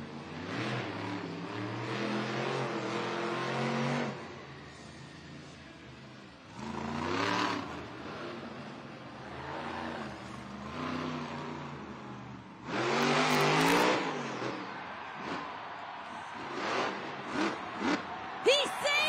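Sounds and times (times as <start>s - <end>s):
truck engine revving: 0.3s - 4.2s, 6.5s - 15.6s, 16.2s - 18.4s.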